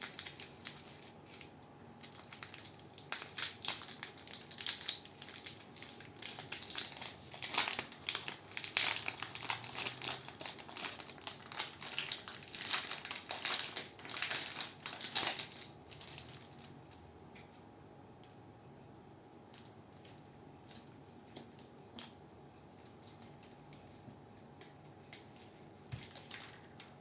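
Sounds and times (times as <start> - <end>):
candy wrappers crinkling: 0.0 - 17.0, 19.5 - 27.0.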